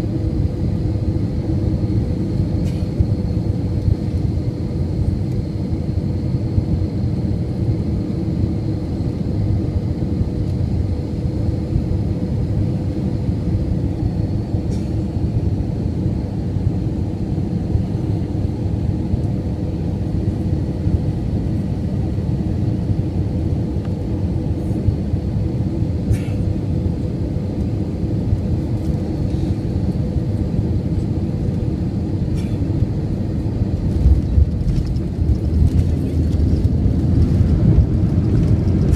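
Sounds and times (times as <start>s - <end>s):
faint engine whine: 0.0s - 38.9s
jet engines rumbling: 0.0s - 38.9s.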